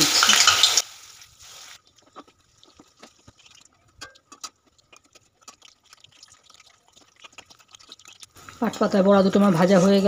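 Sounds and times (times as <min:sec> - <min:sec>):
hot oil crackling: 0:00.0 - 0:10.0.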